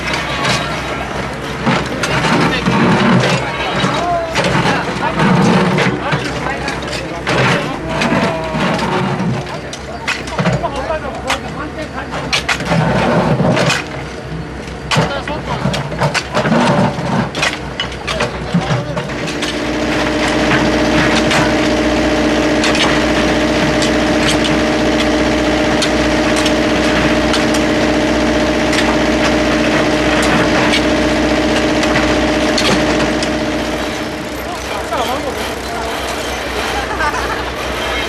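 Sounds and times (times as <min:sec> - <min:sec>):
construction machine engine: 0:00.0 - 0:38.0.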